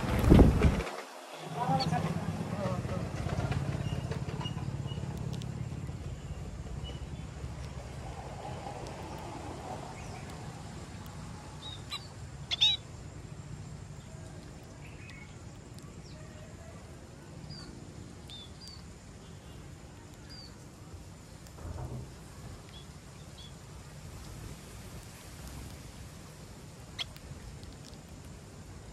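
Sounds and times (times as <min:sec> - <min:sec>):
low outdoor rumble: 0:00.0 - 0:28.9
small birds chirping: 0:01.3 - 0:28.9.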